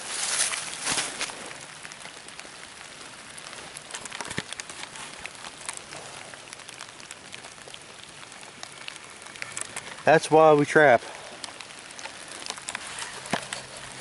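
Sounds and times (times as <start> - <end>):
rain on dead leaves: 0.0 - 14.0.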